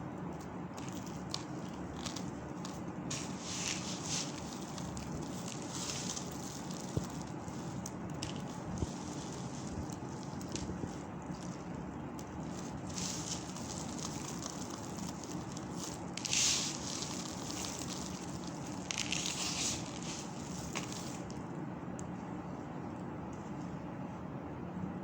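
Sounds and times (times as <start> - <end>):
soap crunching: 0.8 - 21.4.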